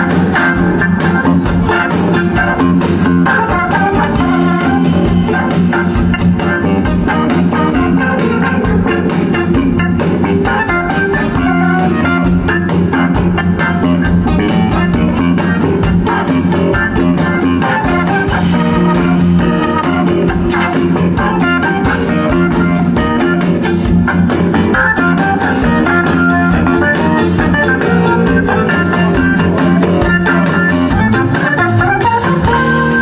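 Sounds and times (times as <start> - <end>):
bass guitar: 0.0 - 33.0
lead guitar: 0.0 - 33.0
steady drum beat: 0.0 - 33.0.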